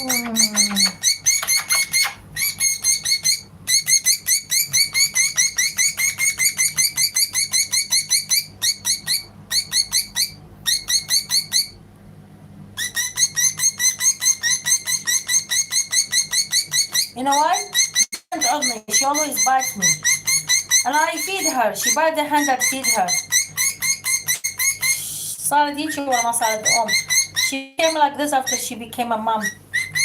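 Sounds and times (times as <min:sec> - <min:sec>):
budgerigar chirping: 0:00.0 - 0:11.8, 0:12.8 - 0:25.0, 0:25.8 - 0:28.8, 0:29.4 - 0:30.0.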